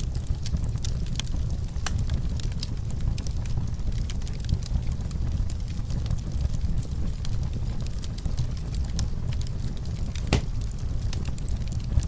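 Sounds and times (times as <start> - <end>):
fire crackles and pops: 0.0 - 12.0
fire flames rumbling: 0.0 - 12.0.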